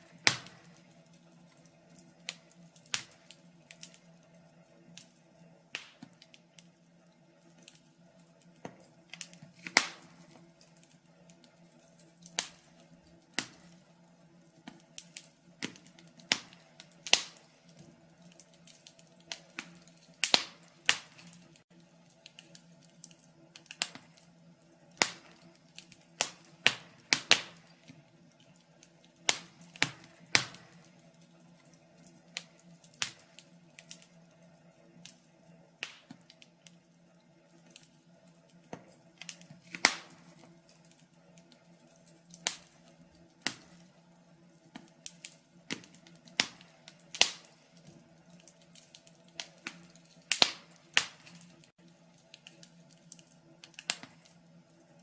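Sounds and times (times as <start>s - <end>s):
faint steady hum: 0.0s - 55.0s
log fire crackling: 0.0s - 55.0s.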